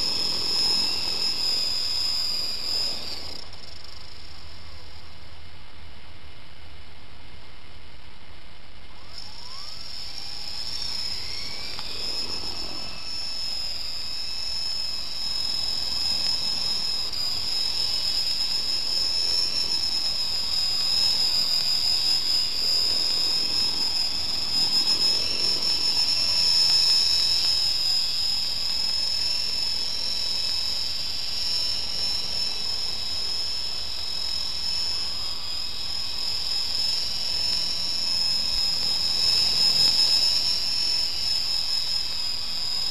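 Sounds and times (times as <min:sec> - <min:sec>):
model helicopter motor whine: 0:00.0 - 0:42.9.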